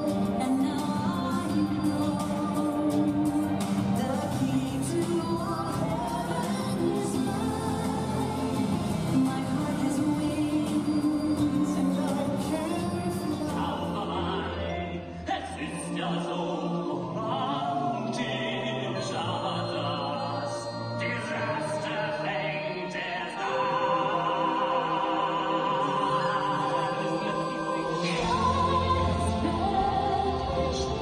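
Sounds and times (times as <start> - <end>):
music with singing: 0.0 - 31.0.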